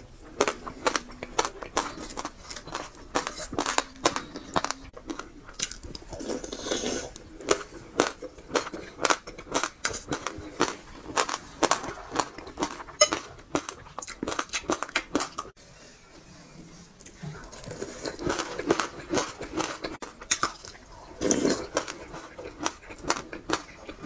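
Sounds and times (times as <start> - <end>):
chewing crunchy seeds: 0.2 - 15.5, 17.5 - 24.0.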